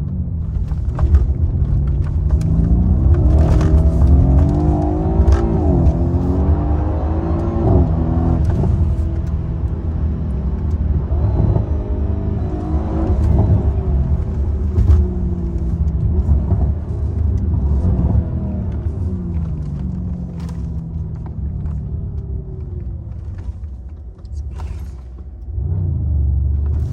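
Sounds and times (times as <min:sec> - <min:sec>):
exhaust crackles: 0:00.0 - 0:25.7
car engine and exhaust revving: 0:00.0 - 0:26.9.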